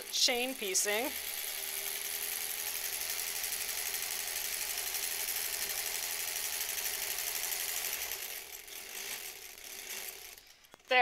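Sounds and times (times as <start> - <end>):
electric sewing machine stitching: 0.0 - 11.0.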